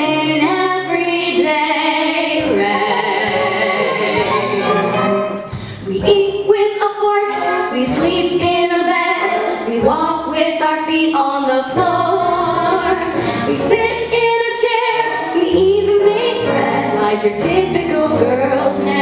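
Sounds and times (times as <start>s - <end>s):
women singing into microphones: 0.0s - 4.9s, 5.5s - 19.0s
live orchestra: 0.0s - 19.0s.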